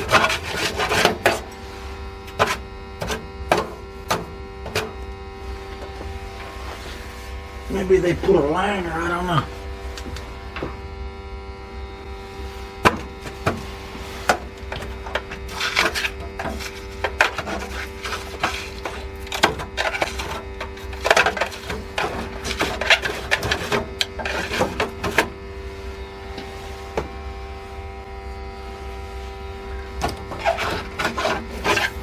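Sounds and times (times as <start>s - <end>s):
scraping strokes: 0.0s - 10.6s, 12.2s - 27.8s, 28.6s - 32.0s
steady electrical hum: 0.0s - 32.0s.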